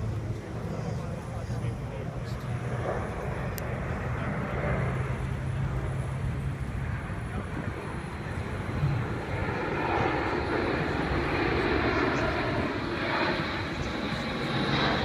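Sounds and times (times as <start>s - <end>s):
distant aircraft engine hum: 0.0s - 15.0s.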